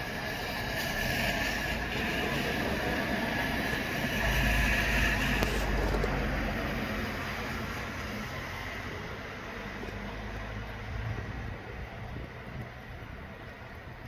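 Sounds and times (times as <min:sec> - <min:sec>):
steady rain and wind: 0:00.0 - 0:14.0.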